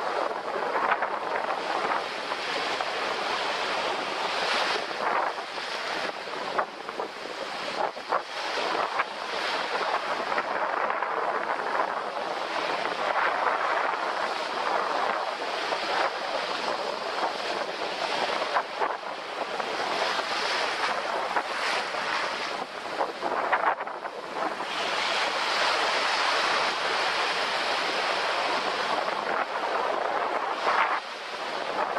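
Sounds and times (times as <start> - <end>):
ocean surf breaking on sand: 0.0 - 31.9.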